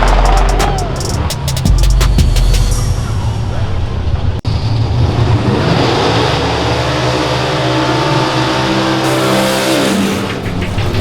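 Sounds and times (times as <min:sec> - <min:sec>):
truck engine accelerating hard: 0:00.0 - 0:11.0.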